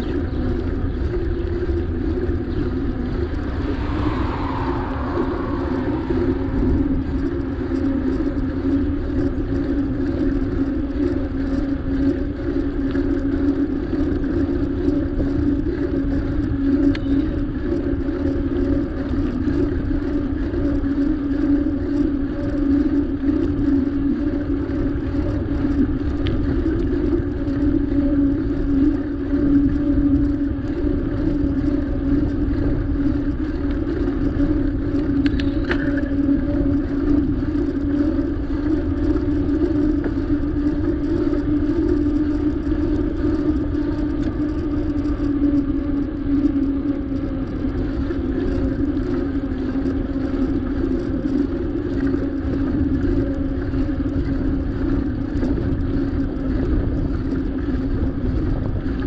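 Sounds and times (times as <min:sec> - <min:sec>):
bicycle road and wind noise: 0:00.0 - 0:59.0.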